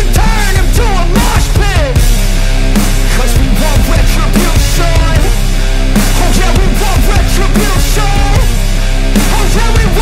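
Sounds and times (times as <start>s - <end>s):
hard rock music: 0.0s - 10.0s.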